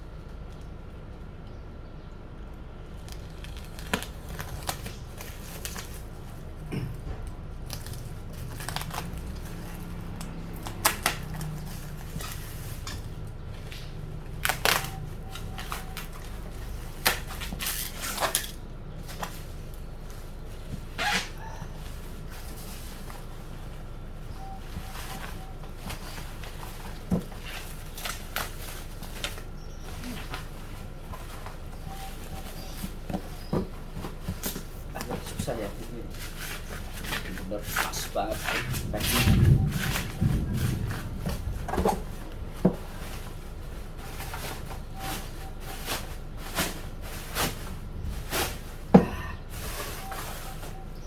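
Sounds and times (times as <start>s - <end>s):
steady low hum: 0.0s - 51.0s
packaging rustling and clicking: 3.0s - 6.6s, 7.2s - 51.0s.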